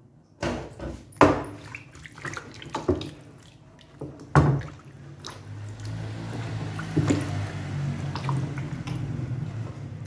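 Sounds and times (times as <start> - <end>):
water splashing in a plastic tub: 1.0 - 10.0.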